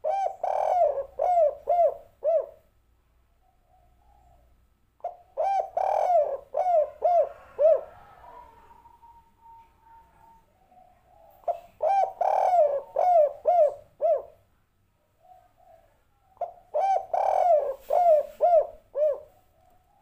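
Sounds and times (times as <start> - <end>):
dove cooing: 0.0 - 2.6, 3.5 - 14.4, 15.2 - 20.0.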